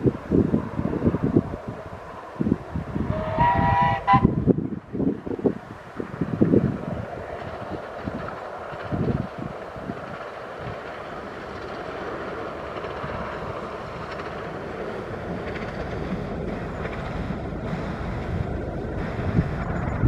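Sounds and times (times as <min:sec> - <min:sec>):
steam train running: 0:00.0 - 0:20.0
wind buffeting microphone: 0:00.0 - 0:20.0.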